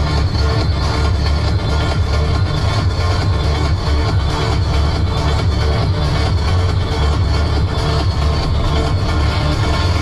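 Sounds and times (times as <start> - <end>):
trance music with heavy bass: 0.0 - 10.0.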